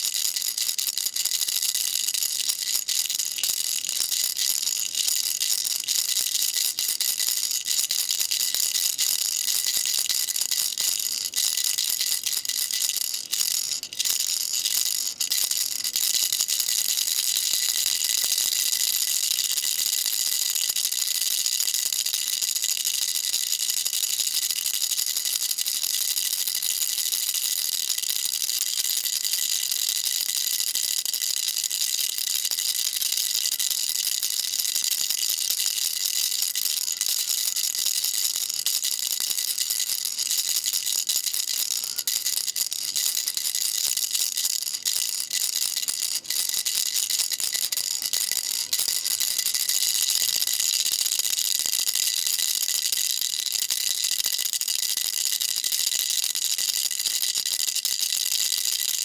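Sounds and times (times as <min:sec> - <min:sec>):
baby rattle shaken: 0:00.0 - 0:59.0.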